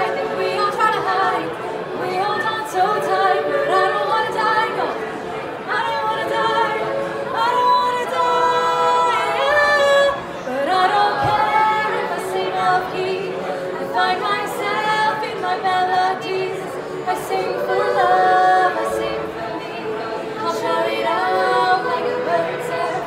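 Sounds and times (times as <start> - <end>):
choir singing in harmony: 0.0 - 23.0.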